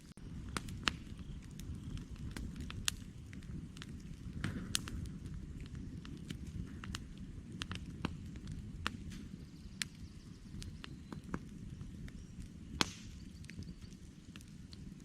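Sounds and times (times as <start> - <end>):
campfire crackling: 0.0 - 15.0
low rumble of burning logs: 0.0 - 15.0.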